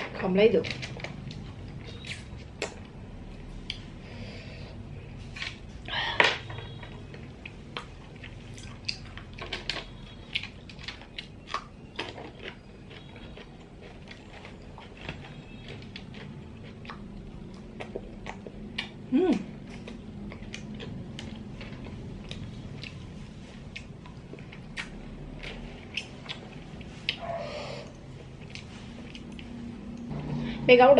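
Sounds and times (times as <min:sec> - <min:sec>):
chewing and mouth noises: 0:00.6 - 0:03.9, 0:06.7 - 0:30.1.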